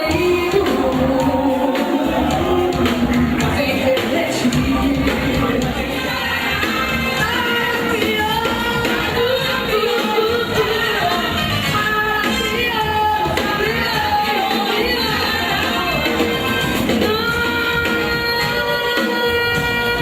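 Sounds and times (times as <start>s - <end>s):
pop song with singing: 0.0s - 20.0s.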